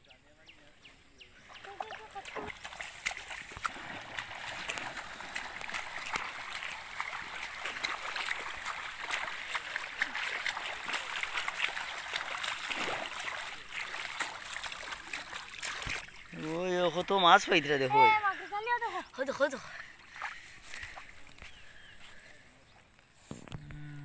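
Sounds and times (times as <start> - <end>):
water splashing and sloshing: 1.3 - 22.4.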